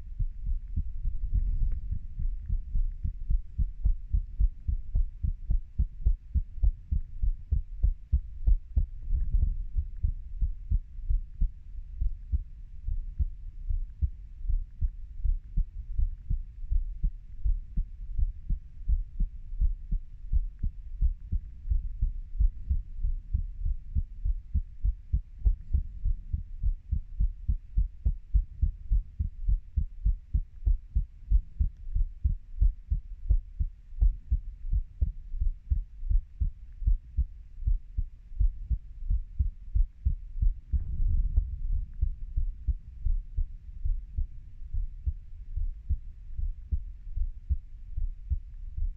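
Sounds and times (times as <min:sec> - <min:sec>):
heartbeat: 0:00.0 - 0:48.9.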